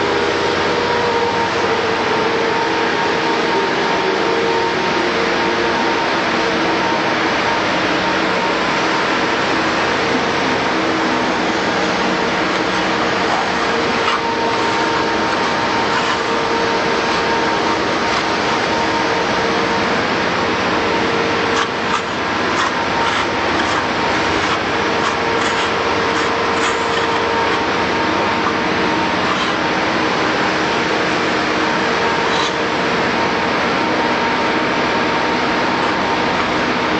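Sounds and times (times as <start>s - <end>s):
machine motor droning and whining: 0.0s - 36.9s.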